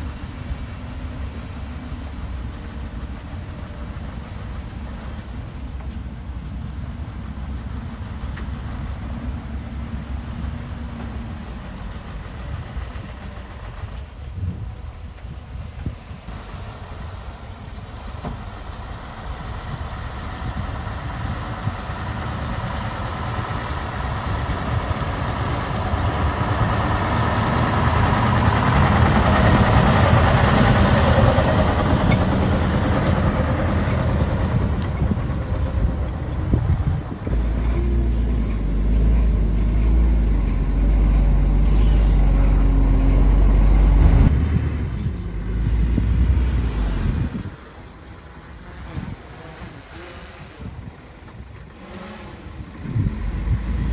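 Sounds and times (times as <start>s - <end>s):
heavy diesel engine droning: 0.0s - 53.9s.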